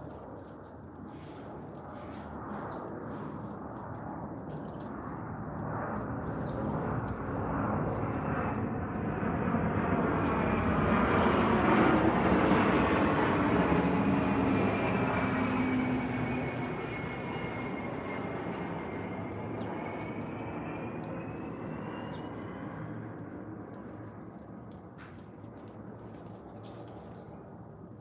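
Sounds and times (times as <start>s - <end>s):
aircraft engine passing: 0.0s - 28.0s.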